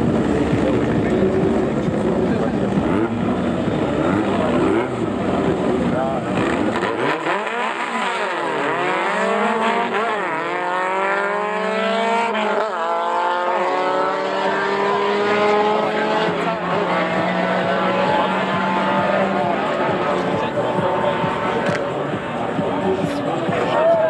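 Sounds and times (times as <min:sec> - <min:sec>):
drag car engines accelerating: 0:00.0 - 0:24.0.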